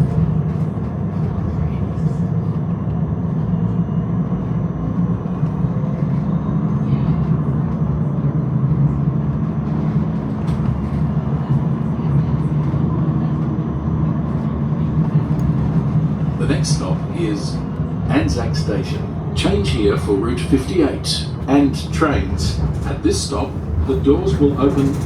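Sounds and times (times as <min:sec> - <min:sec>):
tram rumbling on track: 0:00.0 - 0:25.0.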